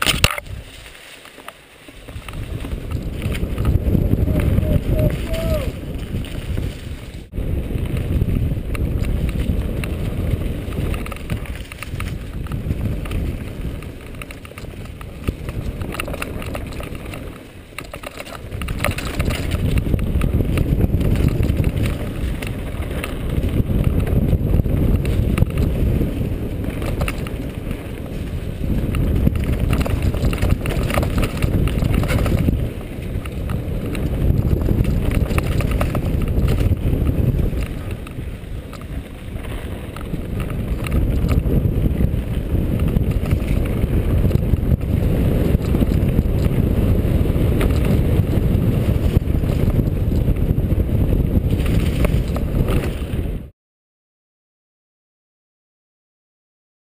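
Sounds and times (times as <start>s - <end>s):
bike rattling and knocking: 0.0s - 0.6s, 1.9s - 53.5s
wind rushing over microphone: 0.0s - 1.0s, 1.9s - 53.5s.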